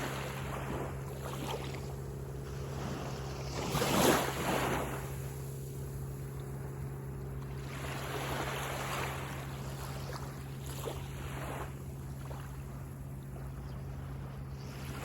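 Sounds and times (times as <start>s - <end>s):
sea waves breaking on beach: 0.0s - 15.0s
steady low hum: 0.0s - 15.0s.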